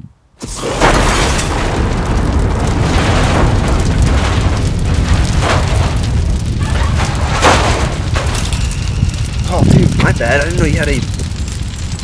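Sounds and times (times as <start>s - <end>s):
fire roaring: 0.0s - 12.0s
explosion rumbling blast: 0.4s - 12.0s.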